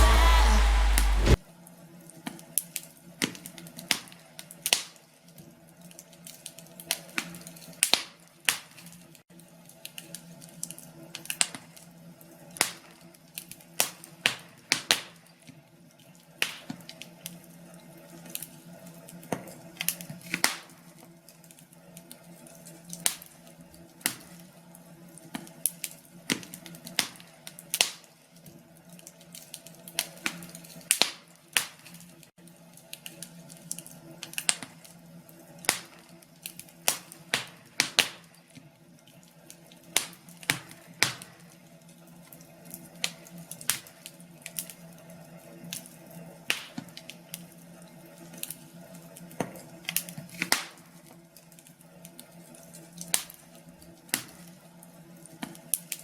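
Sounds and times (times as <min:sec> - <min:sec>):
log fire crackling: 0:03.2 - 0:56.0.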